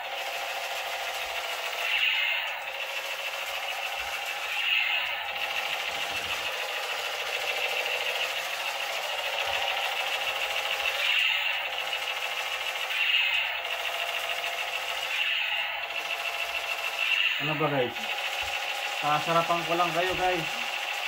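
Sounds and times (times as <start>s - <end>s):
toy machine gun electronic rattle: 0.0s - 21.0s.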